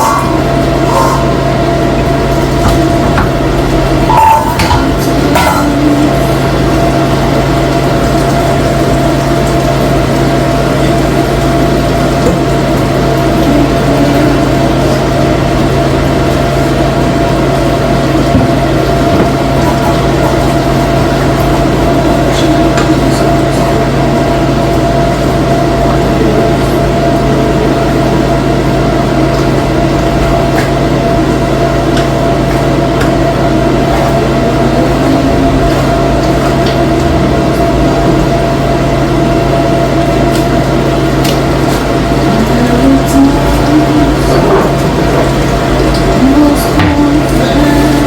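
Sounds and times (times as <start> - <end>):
mechanical hum: 0.0 - 48.0.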